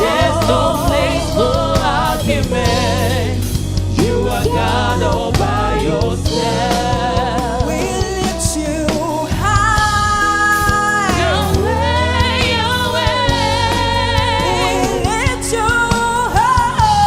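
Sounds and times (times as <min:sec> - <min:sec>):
choir singing: 0:00.0 - 0:17.0
person singing with vibrato: 0:00.0 - 0:17.0
sustained instrumental accompaniment: 0:00.0 - 0:17.0.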